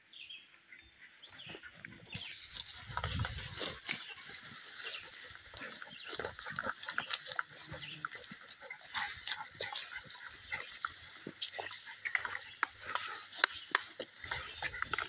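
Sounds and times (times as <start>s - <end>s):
footsteps on dry twigs and leaves: 1.4s - 15.0s.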